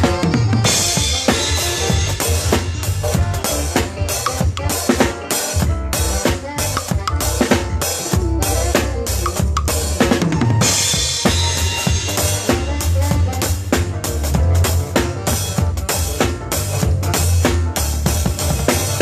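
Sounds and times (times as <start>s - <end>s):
low bass line: 0.0s - 4.7s, 5.6s - 19.0s
drum kit beat: 0.0s - 19.0s.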